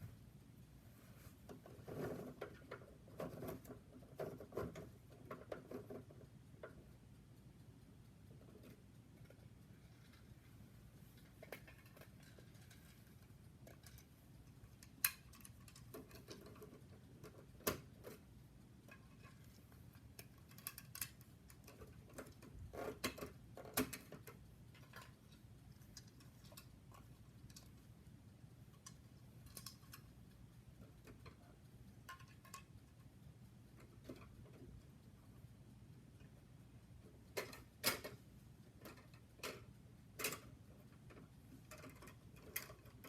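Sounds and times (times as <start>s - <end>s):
light tapping sounds: 0.0s - 43.0s
low steady hum: 0.0s - 43.0s
faint scattered clicks and knocks: 0.9s - 43.0s.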